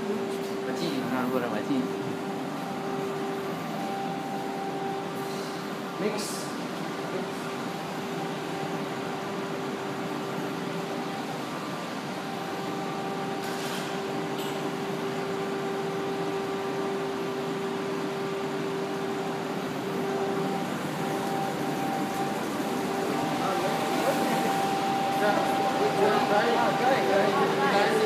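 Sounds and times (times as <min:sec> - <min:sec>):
mixer machine hum: 0:00.0 - 0:28.0.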